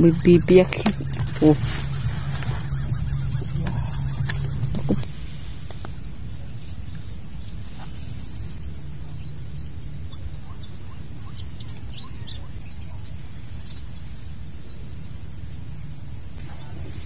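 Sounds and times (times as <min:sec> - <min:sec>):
faint bird chirps: 0:00.0 - 0:05.1, 0:06.2 - 0:17.0
high-pitched whine: 0:00.0 - 0:17.0
steady low rumble: 0:00.0 - 0:17.0.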